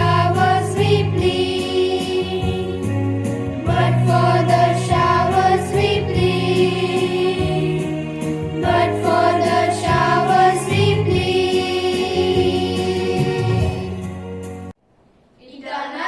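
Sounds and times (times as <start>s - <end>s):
choir singing a hymn: 0.0s - 14.2s
instrumental accompaniment: 0.0s - 14.7s.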